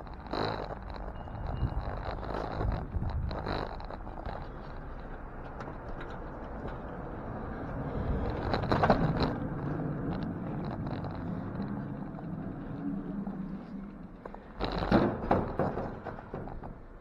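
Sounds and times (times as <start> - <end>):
city street traffic: 0.0 - 17.0
faint clicks and rattles: 0.0 - 17.0.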